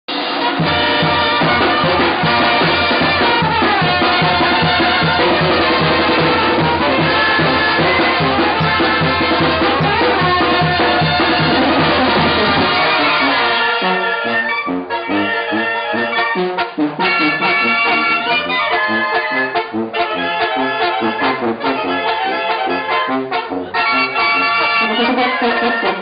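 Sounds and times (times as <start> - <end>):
drums keeping beat: 0.1 - 13.9, 16.0 - 26.0
brass band playing dance tune: 0.1 - 26.0
sousaphone bass line: 0.6 - 26.0.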